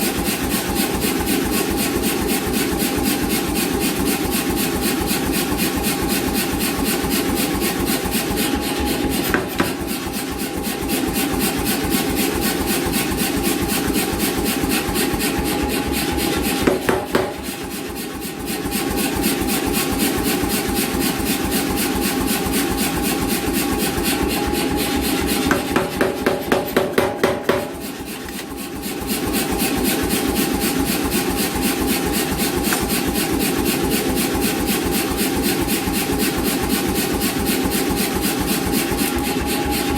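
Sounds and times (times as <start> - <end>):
hammer motor running: 0.0 - 39.9
power hammer striking steel: 6.2 - 39.9.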